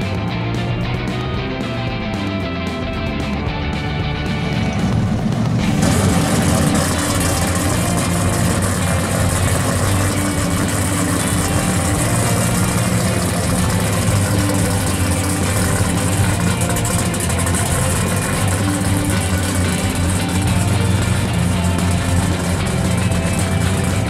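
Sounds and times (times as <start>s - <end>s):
car engine idling loudly: 0.0s - 24.0s.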